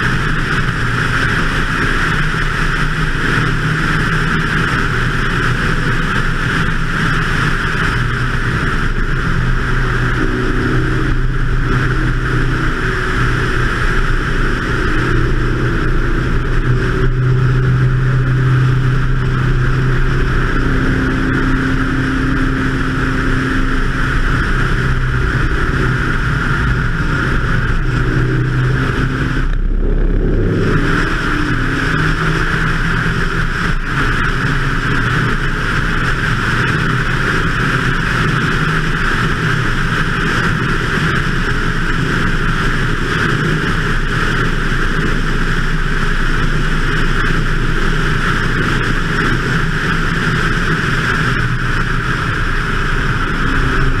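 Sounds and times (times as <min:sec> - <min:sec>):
car engine running hard: 0:00.0 - 0:54.0
wind rushing over microphone: 0:00.0 - 0:54.0.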